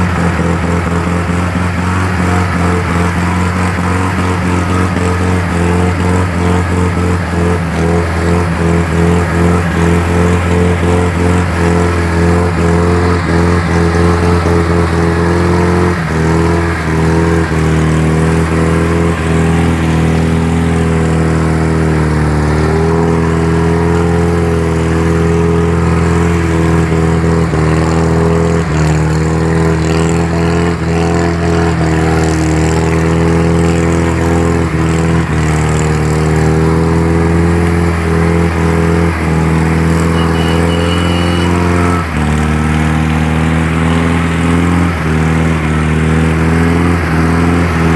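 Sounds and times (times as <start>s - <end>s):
truck engine at high revs: 0.0s - 47.9s.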